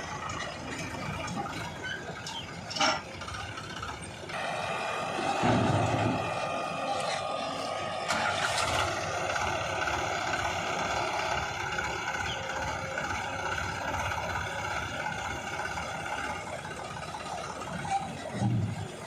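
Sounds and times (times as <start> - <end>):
diesel engine running steadily: 0.0 - 19.0.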